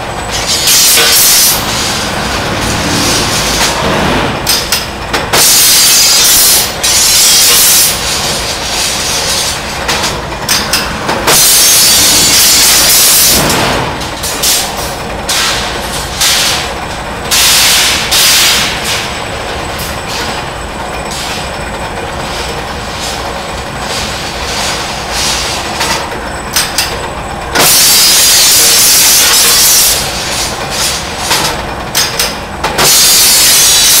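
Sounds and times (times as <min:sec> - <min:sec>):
rebar machine running: 0:00.0 - 0:34.0.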